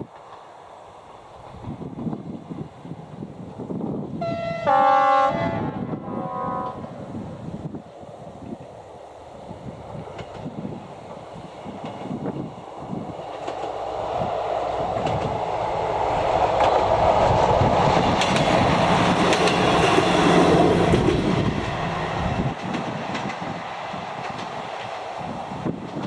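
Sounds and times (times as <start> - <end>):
diesel railcar passing: 0.0 - 26.0.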